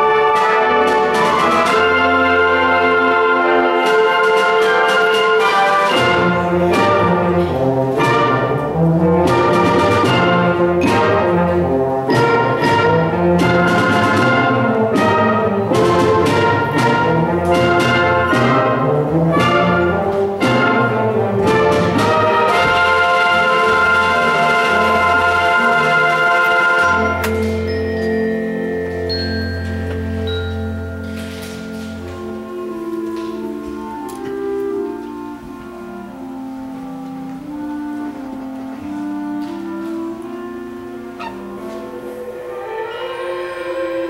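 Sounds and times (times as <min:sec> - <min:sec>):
percussion strikes: 0:00.0 - 0:35.3
concert band playing: 0:00.0 - 0:44.0.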